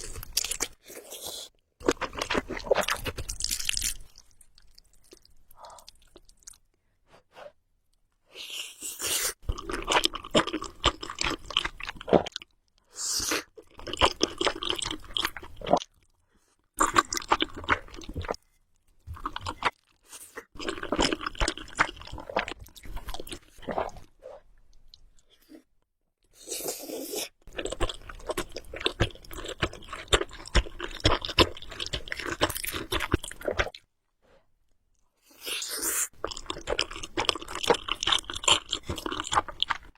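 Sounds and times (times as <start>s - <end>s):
person chewing noodles: 0.0s - 6.7s, 8.5s - 12.5s, 13.3s - 16.2s, 16.8s - 18.4s, 19.1s - 24.1s, 26.4s - 33.8s, 35.3s - 39.9s.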